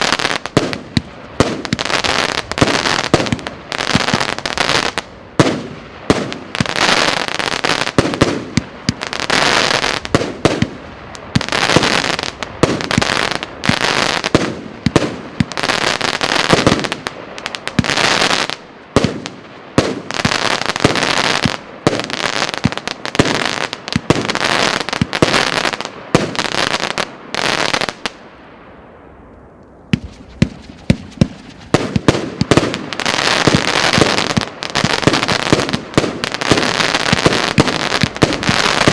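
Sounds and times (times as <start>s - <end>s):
fireworks launching and bursting: 0.0s - 28.4s, 29.8s - 38.9s.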